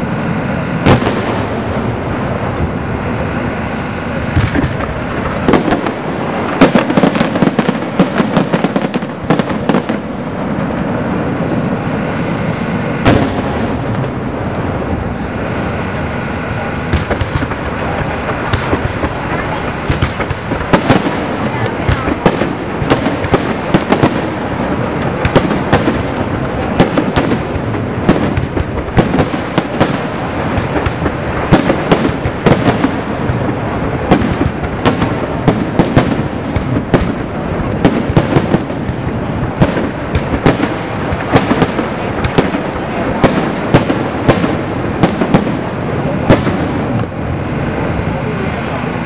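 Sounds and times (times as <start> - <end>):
crackling rumble of fireworks: 0.0 - 49.0
fireworks bangs: 0.0 - 49.0.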